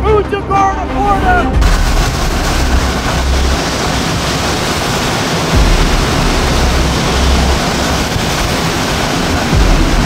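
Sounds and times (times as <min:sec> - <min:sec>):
driving rain: 0:00.0 - 0:10.0
hurricane wind: 0:00.0 - 0:10.0
wind buffeting microphone: 0:01.0 - 0:10.0.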